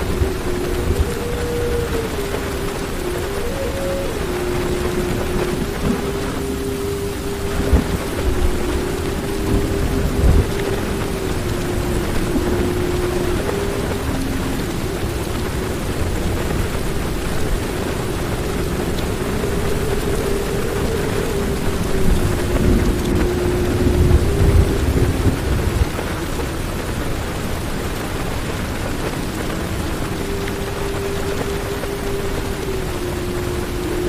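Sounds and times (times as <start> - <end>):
low rumble of thunder: 0.0 - 31.5
heavy rain on a car: 0.0 - 34.0.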